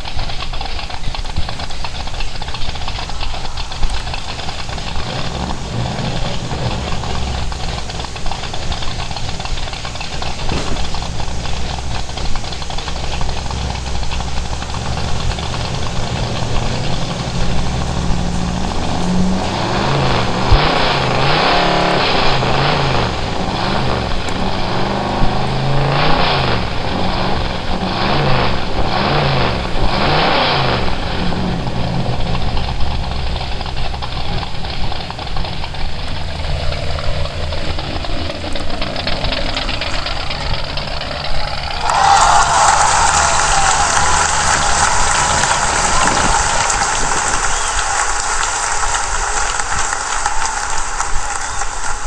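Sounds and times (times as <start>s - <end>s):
engine revving hard: 0.0s - 51.6s
truck engine idling: 0.0s - 52.0s.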